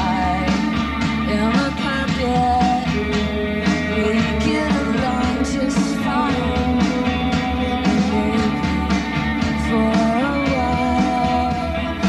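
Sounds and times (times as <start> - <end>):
drums hitting: 0.0 - 12.0
live rock band: 0.0 - 12.0
woman singing: 0.0 - 12.0.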